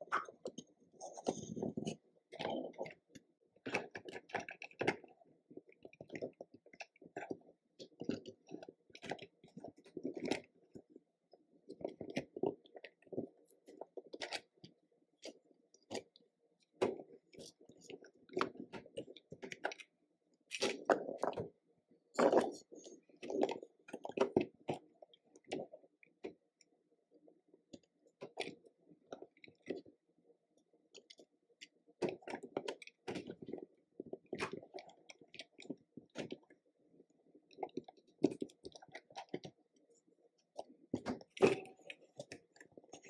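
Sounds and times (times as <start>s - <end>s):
soft squishes of dough: 0.0s - 43.0s.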